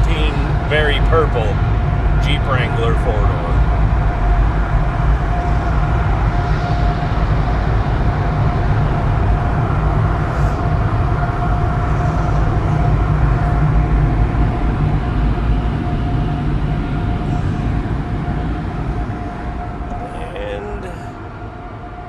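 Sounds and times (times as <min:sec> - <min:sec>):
mid-pitched whine: 0:00.0 - 0:22.0.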